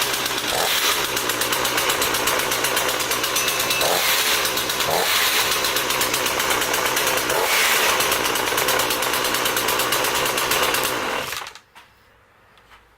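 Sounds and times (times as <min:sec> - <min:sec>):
chainsaw engine running: 0:00.0 - 0:11.6.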